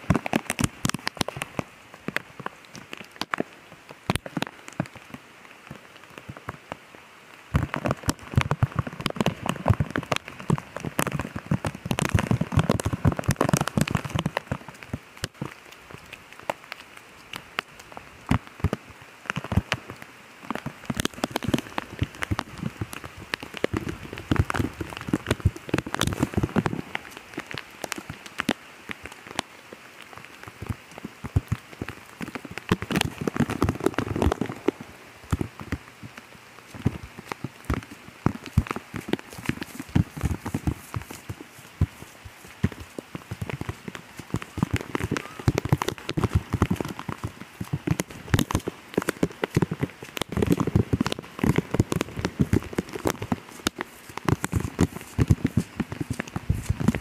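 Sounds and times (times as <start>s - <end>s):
rain falling: 0.0s - 57.0s
raindrops ticking close by: 0.0s - 57.0s.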